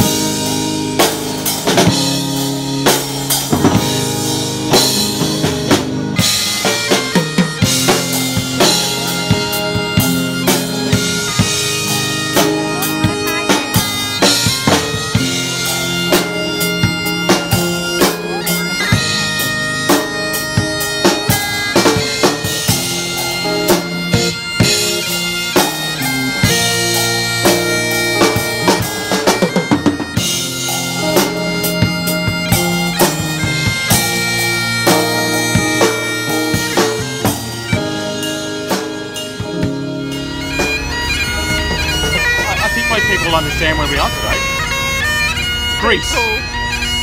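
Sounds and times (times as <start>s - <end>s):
driving drum beat: 0.0s - 46.8s
bagpipes playing: 0.0s - 47.0s.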